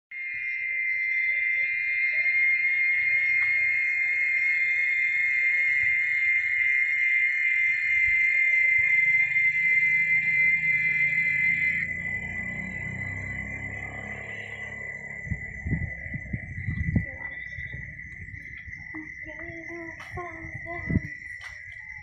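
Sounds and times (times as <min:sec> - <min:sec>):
cicadas droning: 0:00.2 - 0:22.0.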